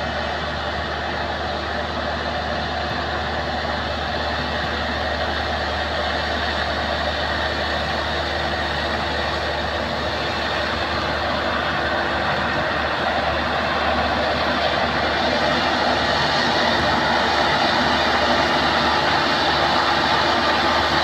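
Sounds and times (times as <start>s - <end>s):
combine harvester engine running: 0.0s - 21.0s.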